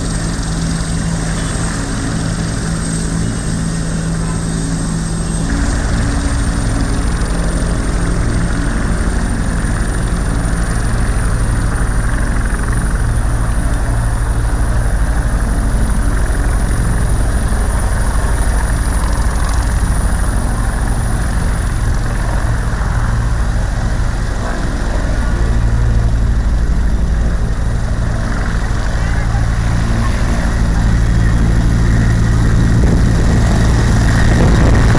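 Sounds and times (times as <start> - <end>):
helicopter rotor and engine: 0.0 - 34.9
high turbine whine: 0.0 - 34.9.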